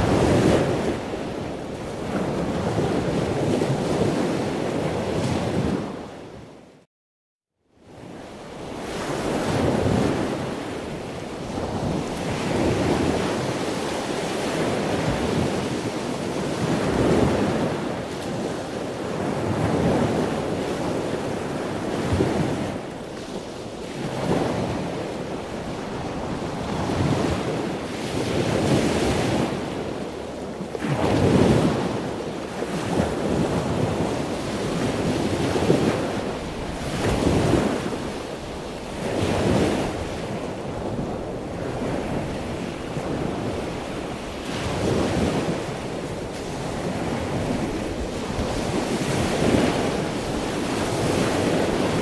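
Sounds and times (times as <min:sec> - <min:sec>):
wind buffeting microphone: 0:00.0 - 0:06.6, 0:07.8 - 0:52.0
waves breaking on shore: 0:00.0 - 0:06.7, 0:07.8 - 0:52.0.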